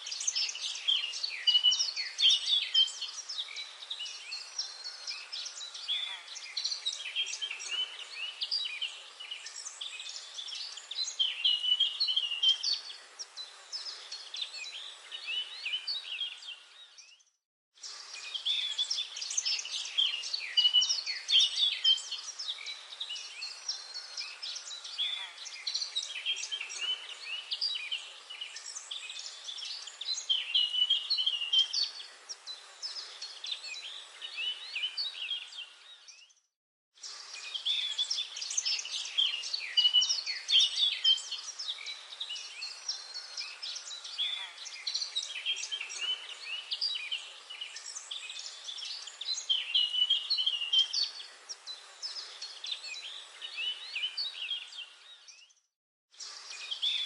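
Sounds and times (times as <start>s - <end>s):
soft forest hiss: 0.0s - 17.2s, 17.8s - 36.3s, 37.0s - 55.6s, 56.2s - 57.0s
songbirds chirping: 0.0s - 57.0s.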